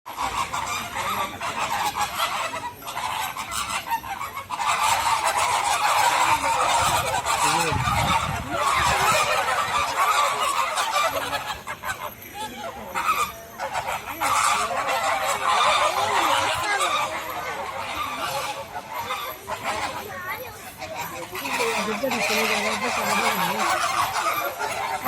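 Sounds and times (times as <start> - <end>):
flock of birds honking: 0.1 - 25.0.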